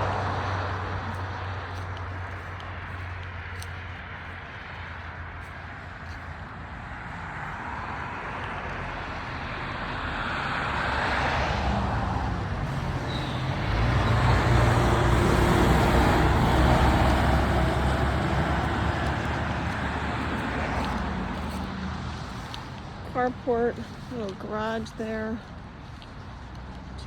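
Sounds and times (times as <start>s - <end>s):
vehicle engine rumble passing: 0.0s - 27.0s
vehicle tyre noise passing: 0.0s - 27.0s.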